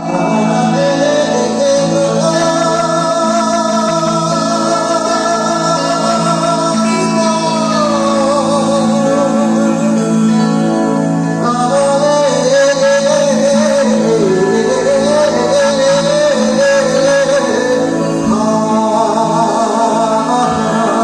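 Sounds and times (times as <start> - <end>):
live band playing: 0.0 - 21.0
wavering lead melody: 0.0 - 21.0.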